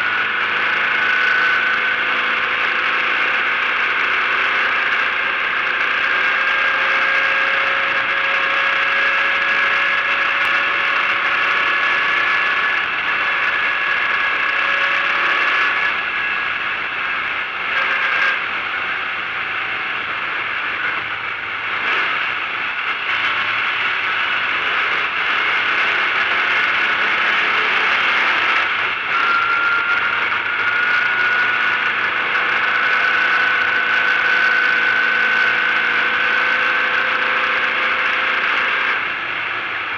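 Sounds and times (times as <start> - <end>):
car engine running at speed: 0.0 - 39.9.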